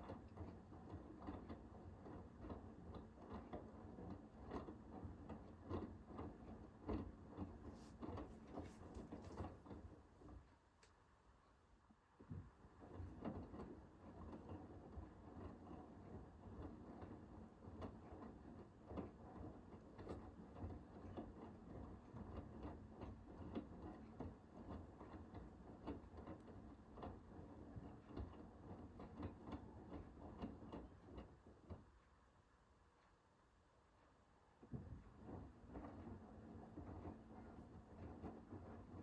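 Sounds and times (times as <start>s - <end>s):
washing machine motor rumble: 0.0s - 10.7s, 12.0s - 32.0s, 34.5s - 39.0s.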